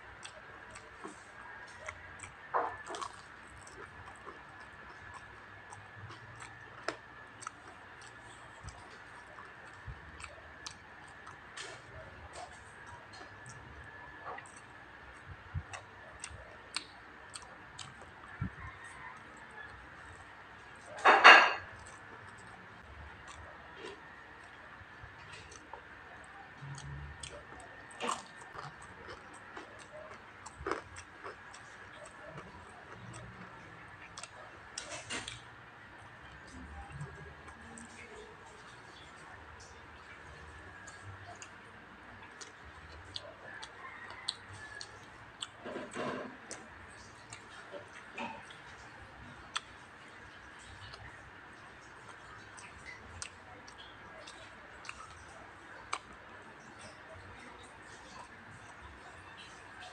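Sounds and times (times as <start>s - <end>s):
crispy food crunch: 0.0s - 59.9s
faint steady hum: 0.0s - 59.9s
person chewing with mouth clicks: 0.1s - 19.8s, 21.8s - 35.5s, 42.2s - 51.2s, 51.8s - 59.9s.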